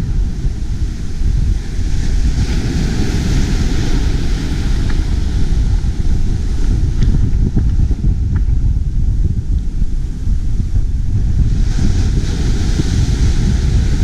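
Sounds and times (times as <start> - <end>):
surf breaking on beach: 0.0 - 8.3, 9.5 - 14.0
wind buffeting microphone: 0.0 - 14.0.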